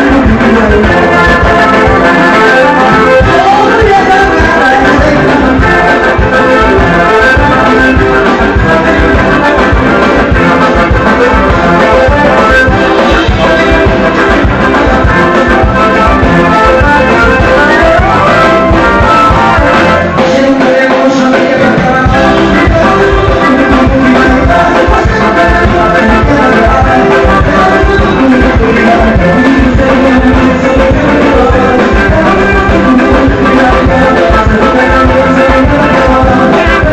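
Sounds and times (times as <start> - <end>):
band music with accordion: 0.0 - 36.9.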